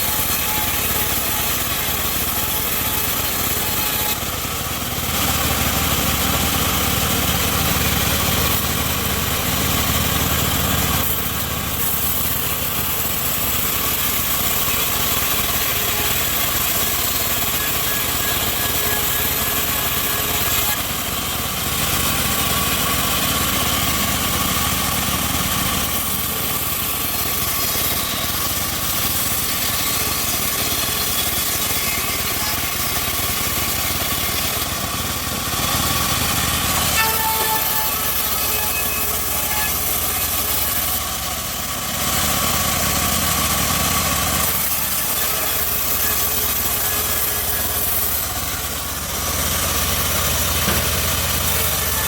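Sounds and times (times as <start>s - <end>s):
bandsaw mill droning: 0.0s - 52.0s.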